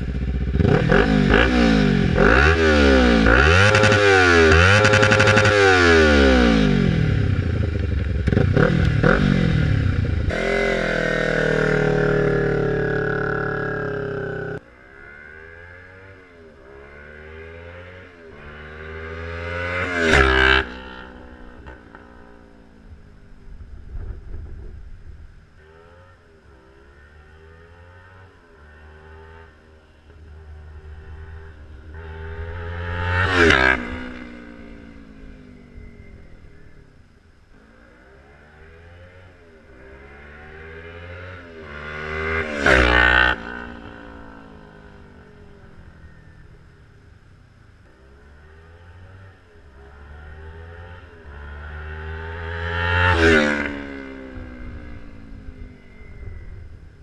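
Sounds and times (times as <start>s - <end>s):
distant motorcycle revving: 0.0s - 57.0s
motorcycle passing at speed: 0.0s - 57.0s.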